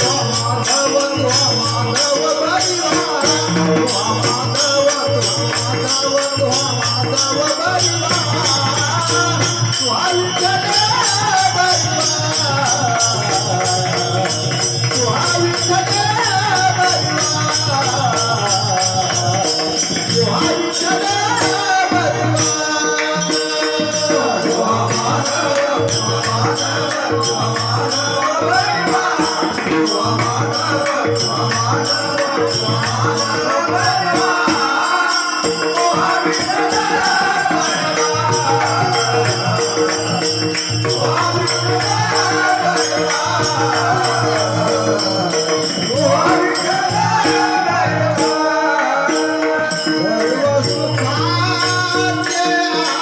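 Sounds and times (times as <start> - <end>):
jingling hand percussion: 0.0 - 53.0
person singing devotional song: 0.0 - 53.0.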